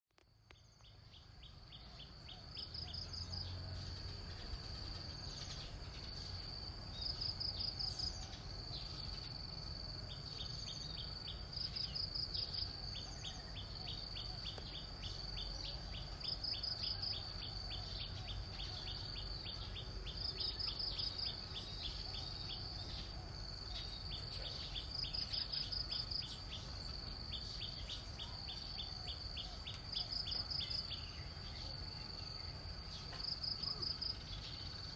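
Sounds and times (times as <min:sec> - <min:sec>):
insects droning: 0:00.2 - 0:34.9.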